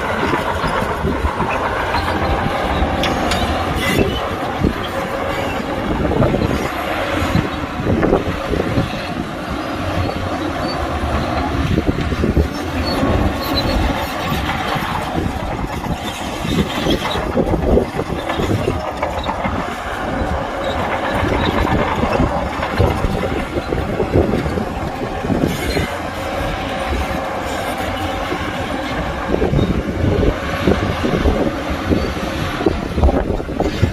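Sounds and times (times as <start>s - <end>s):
crawler tracks squealing: 0.0s - 33.9s
diesel engine running: 0.0s - 33.9s.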